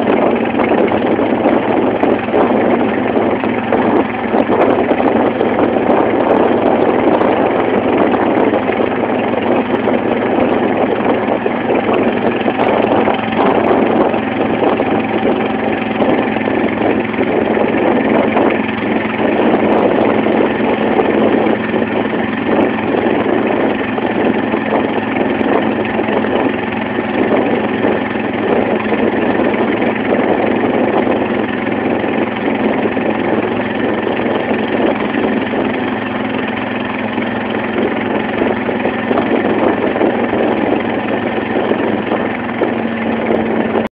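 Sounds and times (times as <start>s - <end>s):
motorboat engine running: 0.0s - 43.9s.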